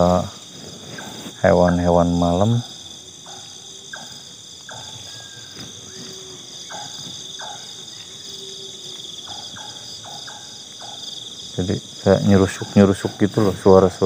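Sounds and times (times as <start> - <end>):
crickets and insects buzzing: 0.0 - 14.0
night animal calls: 0.0 - 14.0.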